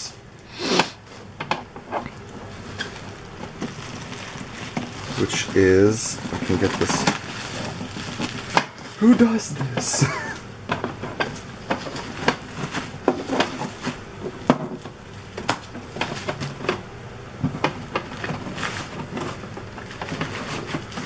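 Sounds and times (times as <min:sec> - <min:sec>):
packaging rustling: 0:02.2 - 0:16.8, 0:17.4 - 0:21.0.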